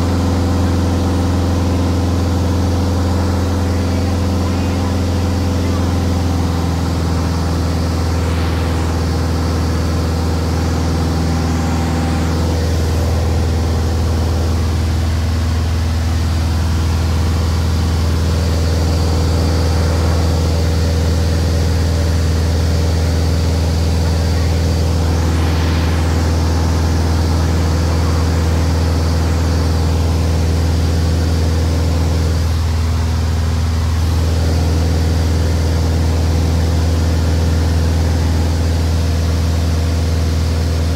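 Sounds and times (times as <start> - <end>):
aircraft engine drone in cockpit: 0.0 - 40.9.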